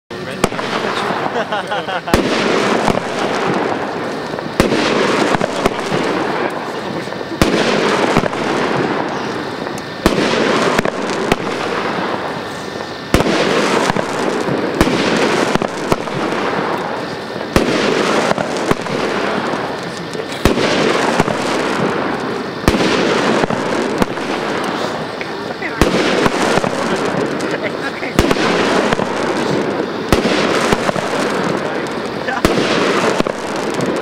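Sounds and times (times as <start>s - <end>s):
hissing crackling firework stars: 0.1s - 34.0s
firework cake bangs: 0.3s - 34.0s.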